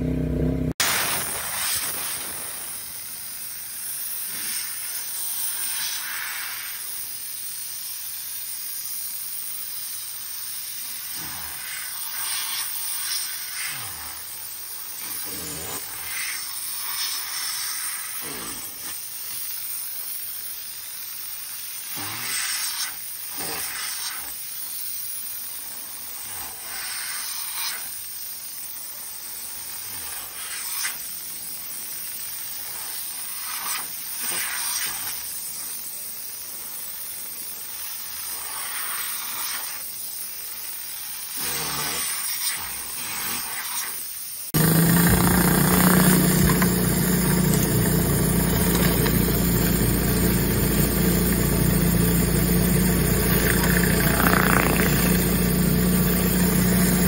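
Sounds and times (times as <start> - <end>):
pressure washer spray hissing: 0.8 - 57.0.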